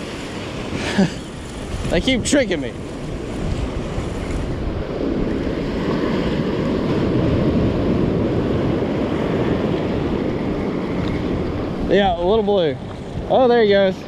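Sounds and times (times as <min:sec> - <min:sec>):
surf washing in: 0:00.0 - 0:14.0
wind buffeting microphone: 0:00.0 - 0:14.0.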